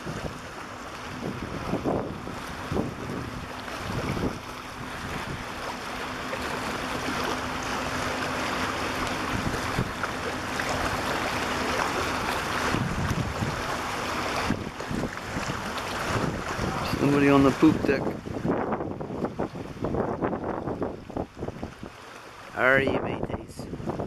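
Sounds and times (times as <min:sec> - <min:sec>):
wind on microphone: 0:00.0 - 0:07.3, 0:08.0 - 0:22.0, 0:22.6 - 0:24.0
water washing: 0:00.0 - 0:24.0.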